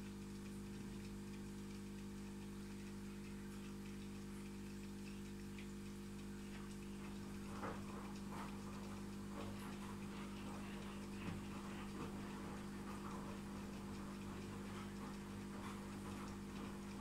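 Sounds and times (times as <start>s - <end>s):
low electrical hum: 0.0s - 17.0s
soft water drips and plops: 0.0s - 17.0s.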